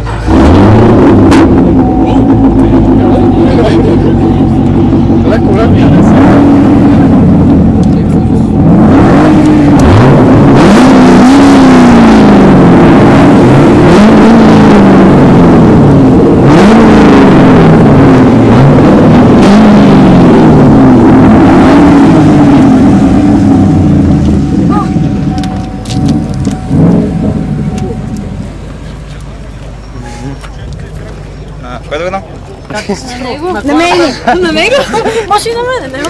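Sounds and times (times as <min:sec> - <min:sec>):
car engine revving: 0:00.0 - 0:32.6.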